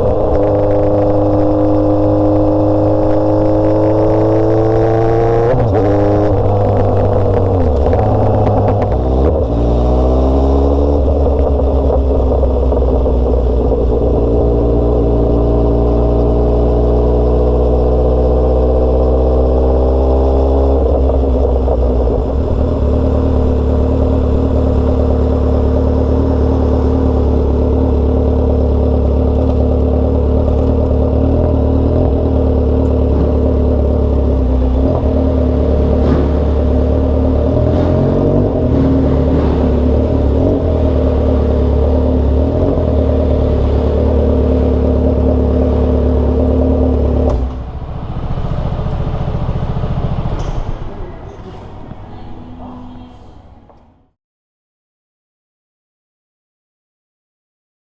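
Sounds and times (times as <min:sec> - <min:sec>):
motorcycle engine accelerating: 0:00.0 - 0:52.1.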